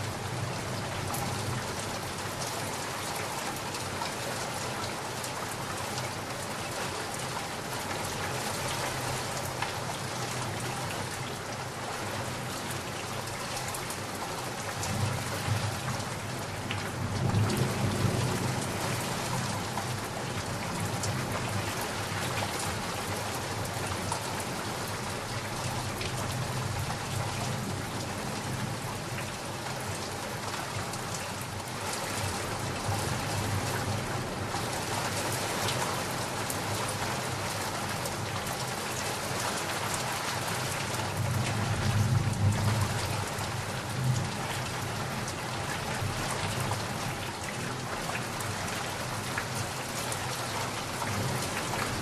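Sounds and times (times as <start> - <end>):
heavy rain pattering: 0.0 - 52.0.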